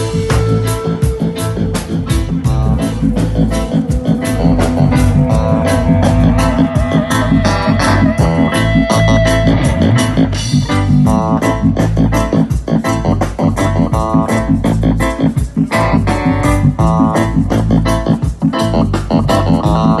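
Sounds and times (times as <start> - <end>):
bass guitar: 0.0 - 20.0
drum kit steady beat: 0.0 - 20.0
guitar: 0.0 - 20.0.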